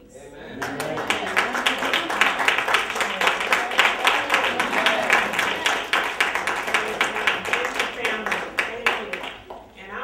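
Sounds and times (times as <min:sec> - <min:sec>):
congregation applauding: 0:00.6 - 0:09.7.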